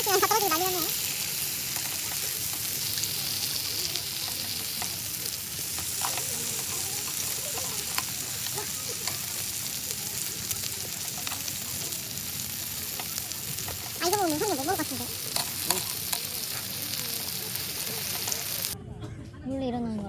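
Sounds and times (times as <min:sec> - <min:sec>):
food sizzling in a hot pan: 0:00.0 - 0:18.8.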